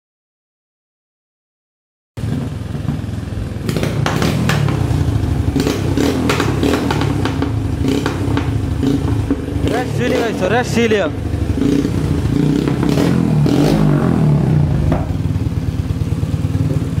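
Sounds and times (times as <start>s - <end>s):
exhaust cracks: 2.2s - 17.0s
motorcycle engine running unevenly: 2.2s - 17.0s.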